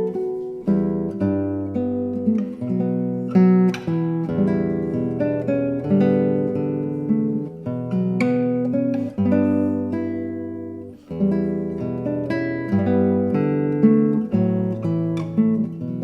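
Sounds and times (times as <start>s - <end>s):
classical guitar music: 0.0s - 16.0s.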